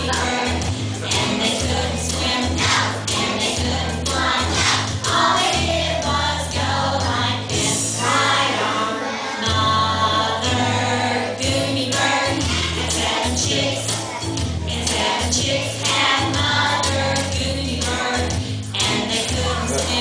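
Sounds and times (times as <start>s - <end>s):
steady bass line: 0.0s - 8.8s, 9.4s - 20.0s
choral singing: 0.0s - 20.0s.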